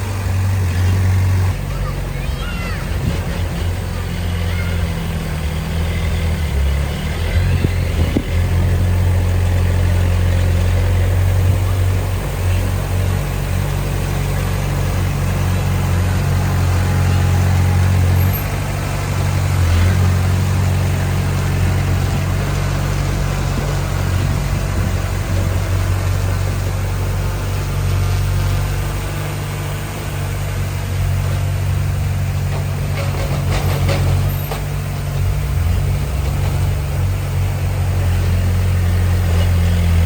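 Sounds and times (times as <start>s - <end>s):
bulldozer diesel engine droning: 0.0s - 40.0s.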